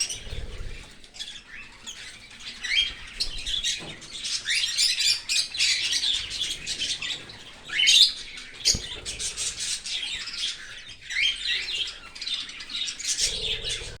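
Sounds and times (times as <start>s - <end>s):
cockatiels chirping and squawking: 0.0s - 14.0s.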